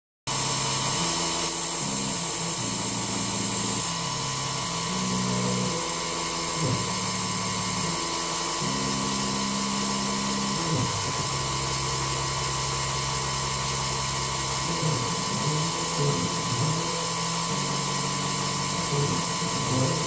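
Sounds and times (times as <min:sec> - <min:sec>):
milling machine cutting metal: 0:00.3 - 0:20.0.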